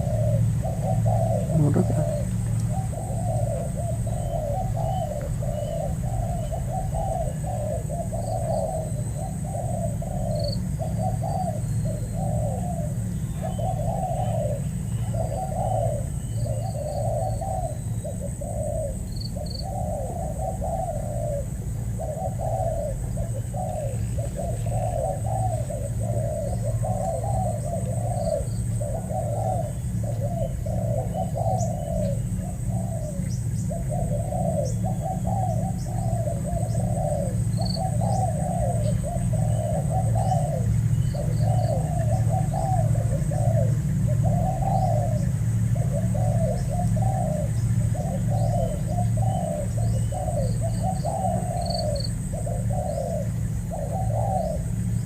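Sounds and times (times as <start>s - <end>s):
doves cooing: 0.0s - 55.0s
steady low hum: 0.0s - 55.0s.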